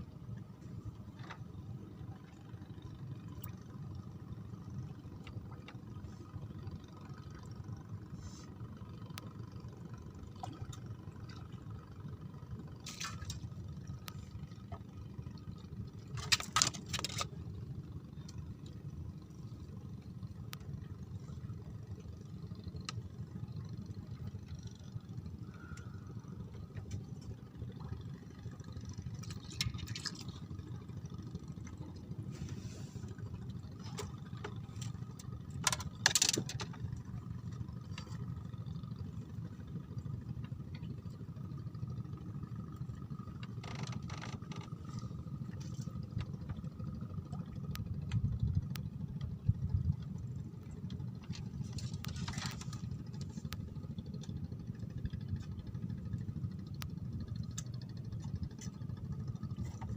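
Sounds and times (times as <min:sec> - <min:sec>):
low motor hum: 0:00.0 - 0:59.9.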